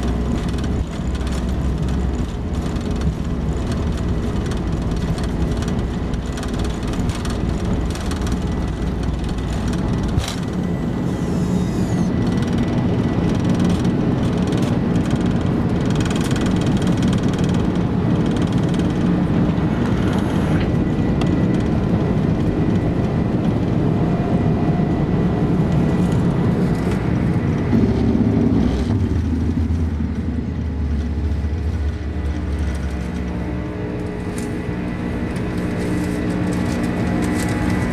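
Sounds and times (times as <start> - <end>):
deep rumble: 0.0 - 37.9
jet engines with high whine: 0.0 - 37.9
wheels rumbling on runway: 0.0 - 37.9.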